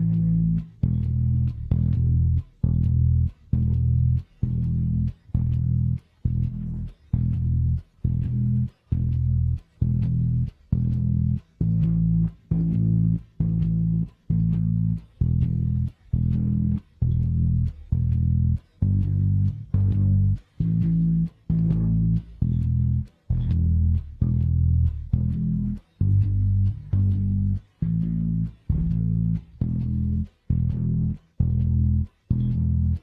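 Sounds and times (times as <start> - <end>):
electric bass guitar notes: 0.0 - 33.0.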